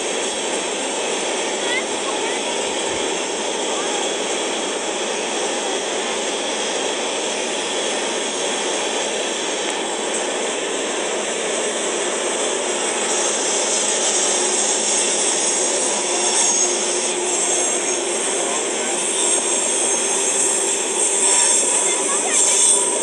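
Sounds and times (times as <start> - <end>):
freight train wheels on rail: 0.0 - 23.0.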